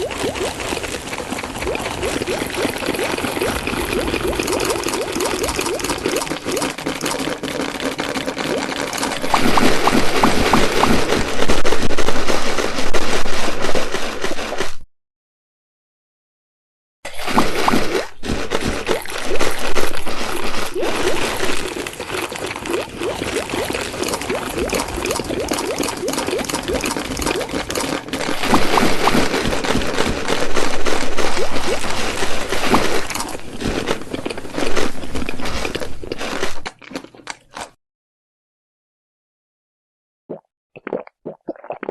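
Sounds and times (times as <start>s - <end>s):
wet chewing and crunching: 0.0s - 14.8s, 17.1s - 37.8s, 40.8s - 41.9s.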